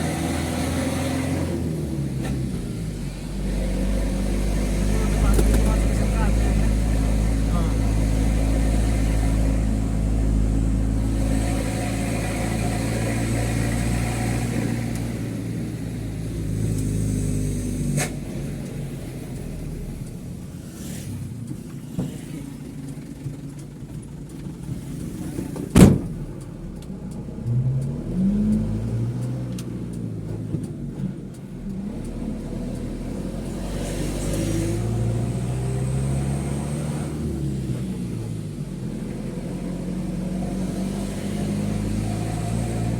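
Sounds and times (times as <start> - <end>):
diesel truck engine revving: 0.0 - 42.9.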